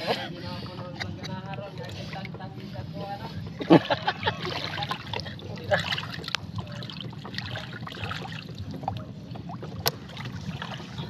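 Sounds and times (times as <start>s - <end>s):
low steady hum: 0.0s - 11.0s
seawater trickling and sloshing: 0.0s - 11.0s.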